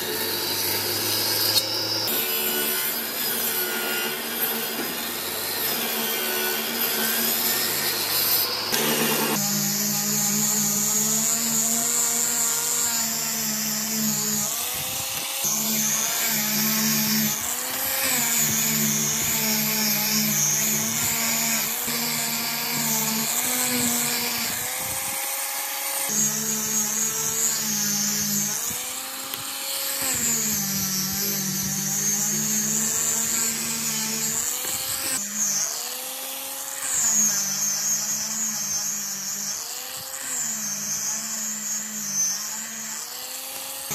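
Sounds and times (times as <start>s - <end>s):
angle grinder sanding wood: 0.0s - 43.9s.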